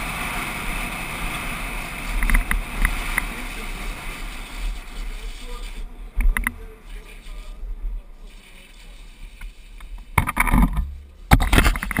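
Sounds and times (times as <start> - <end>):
plastic toy wheels rumbling on asphalt: 0.0 - 12.0
wind rushing over camera: 0.0 - 12.0.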